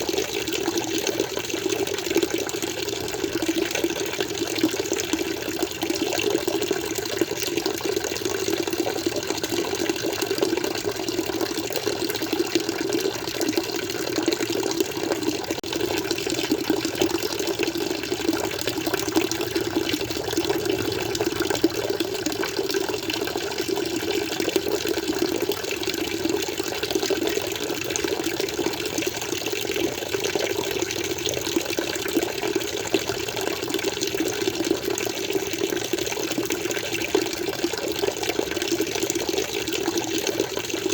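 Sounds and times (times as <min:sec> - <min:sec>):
water flowing and splashing: 0:00.0 - 0:40.9.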